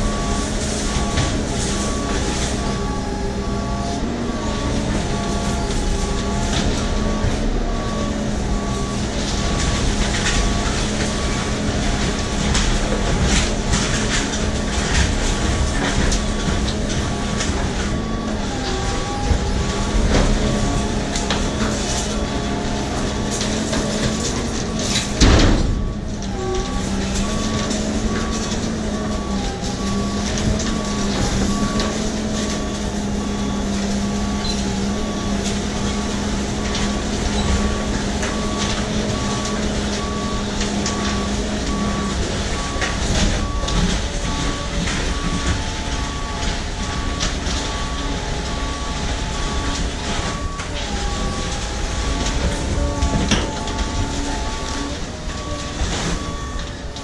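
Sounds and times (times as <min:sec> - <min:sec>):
compactor truck engine and hydraulics: 0:00.0 - 0:57.0
warning beep: 0:00.0 - 0:57.0.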